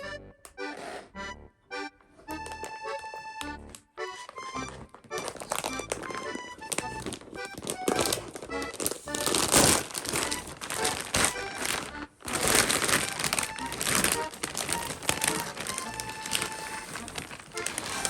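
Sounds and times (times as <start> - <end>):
packaging crinkling and rustling: 2.3 - 18.0.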